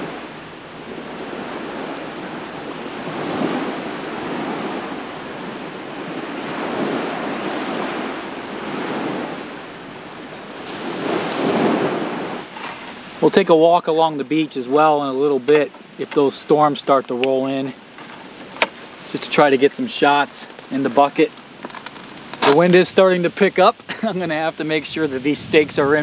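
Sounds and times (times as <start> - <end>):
small waves washing onto shore: 0.0 - 26.0
wind blowing: 0.0 - 26.0.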